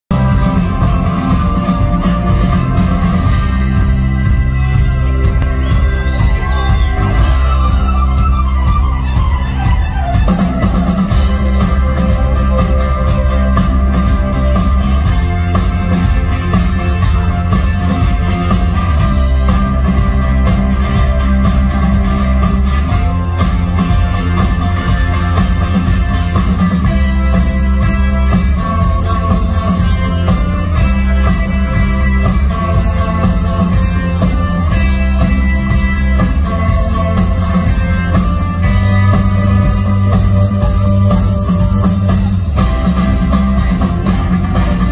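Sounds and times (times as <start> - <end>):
live rock band playing: 0.1 - 44.9.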